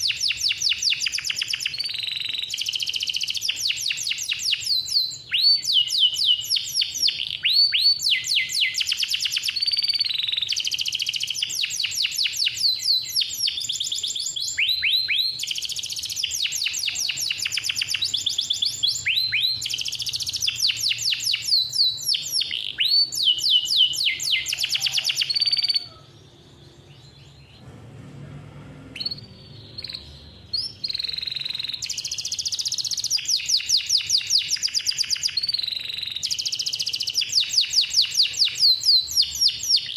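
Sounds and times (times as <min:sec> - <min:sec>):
canary singing trills: 0:00.0 - 0:27.6, 0:28.9 - 0:39.9.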